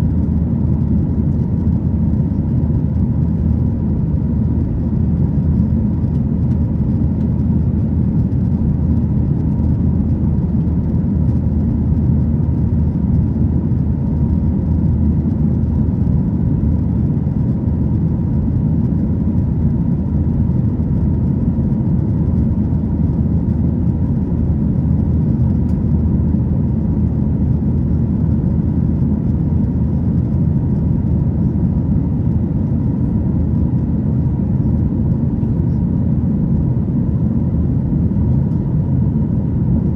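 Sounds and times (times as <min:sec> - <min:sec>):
faint steady whine: 0:00.0 - 0:39.9
jet engine cabin rumble: 0:00.0 - 0:39.9.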